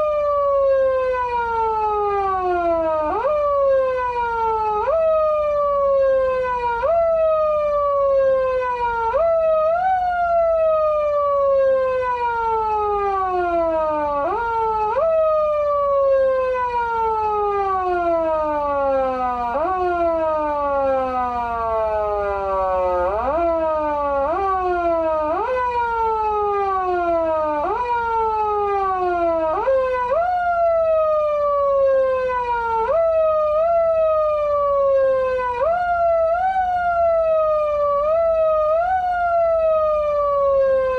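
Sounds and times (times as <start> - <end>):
siren wailing up and down: 0.0 - 40.9.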